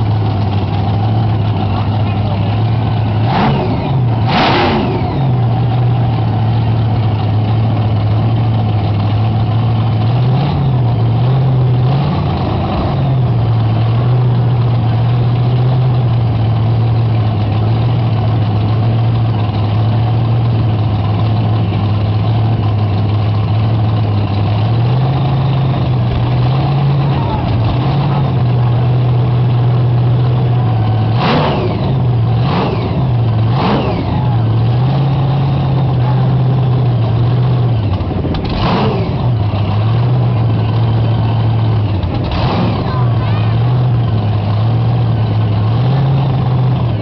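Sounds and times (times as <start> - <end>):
engine idling and revving: 0.0 - 47.0.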